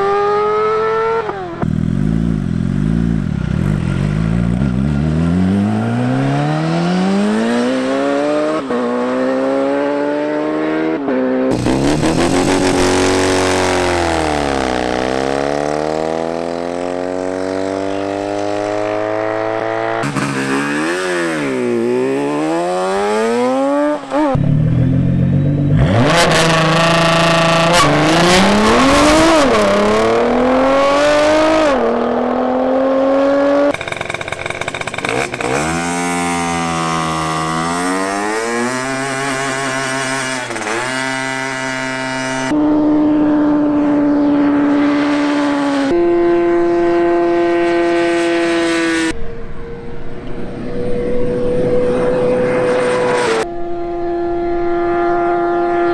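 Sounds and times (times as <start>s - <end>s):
car engines revving: 0.0s - 55.9s
motorcycle engines accelerating: 0.0s - 55.9s.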